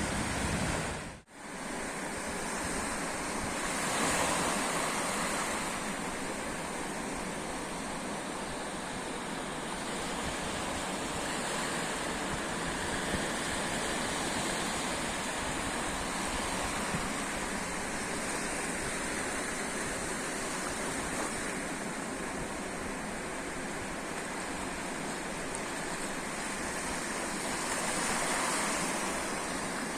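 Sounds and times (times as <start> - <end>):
sea surf: 0.0 - 29.9.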